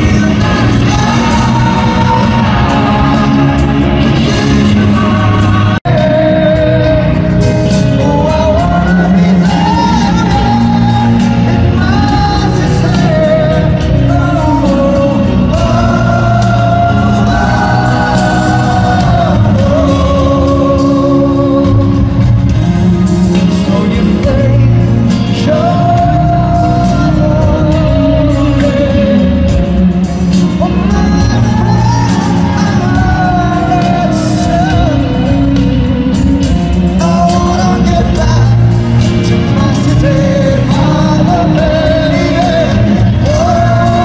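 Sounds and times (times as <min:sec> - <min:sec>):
lead singer singing: 0:00.0 - 0:44.0
rock band playing: 0:00.0 - 0:44.0.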